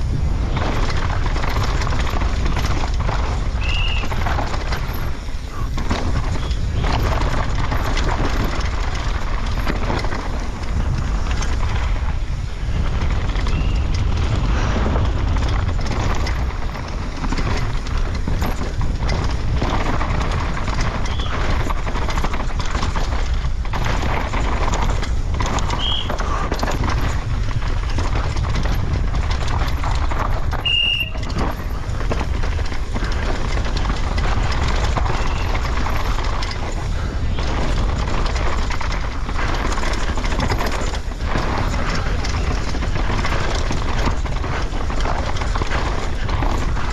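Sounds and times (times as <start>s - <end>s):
bike rattling over ground: 0.0s - 46.9s
wind rumble on microphone: 0.0s - 46.9s.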